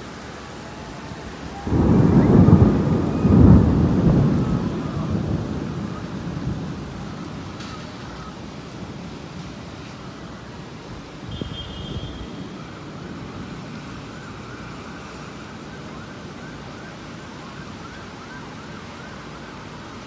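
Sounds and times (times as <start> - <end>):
rain hissing: 0.0 - 20.0
thunder rumbling: 0.6 - 17.5.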